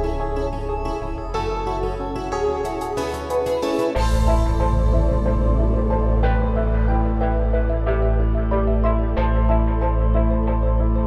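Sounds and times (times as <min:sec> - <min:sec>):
calm new-age music: 0:00.0 - 0:11.0.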